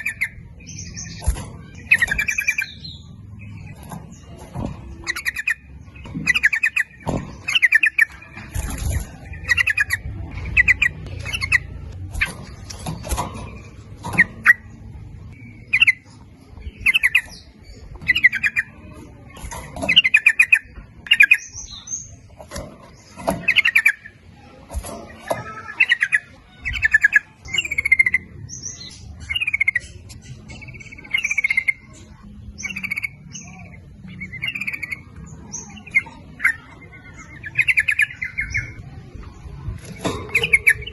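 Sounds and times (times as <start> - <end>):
bird singing chattering phrases: 0.0 - 40.9.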